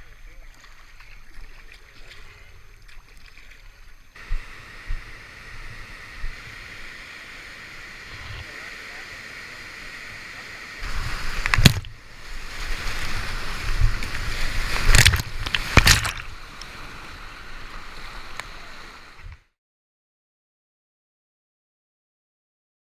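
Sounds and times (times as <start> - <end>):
rushing river water and splashing: 0.0 - 19.4.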